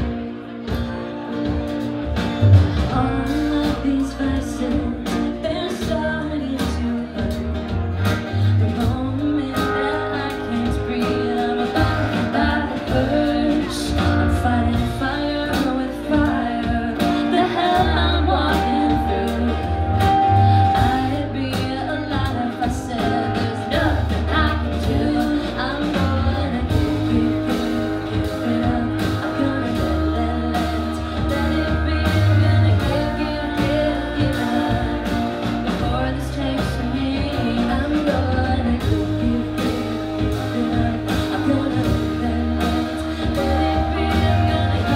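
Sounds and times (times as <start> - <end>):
acoustic guitars: 0.0 - 44.9
keyboard: 0.0 - 44.9
women singing: 2.7 - 44.9.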